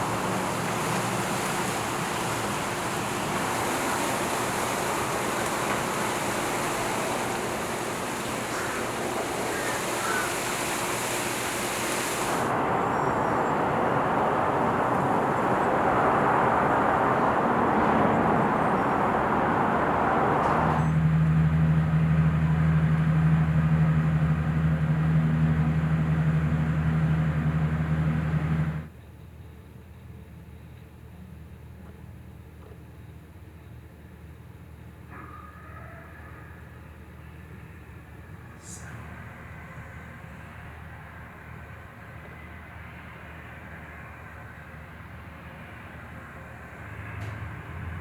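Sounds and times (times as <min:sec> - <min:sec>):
low engine hum: 0:00.0 - 0:28.9, 0:38.3 - 0:48.0
outdoor traffic noise: 0:00.0 - 0:48.0.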